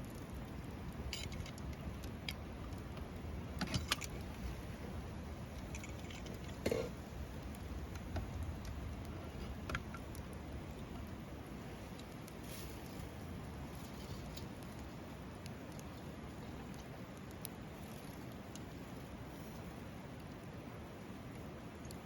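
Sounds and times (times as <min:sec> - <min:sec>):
campfire snaps and pops: 0:00.0 - 0:22.0
low rumble of burning wood: 0:00.0 - 0:22.0.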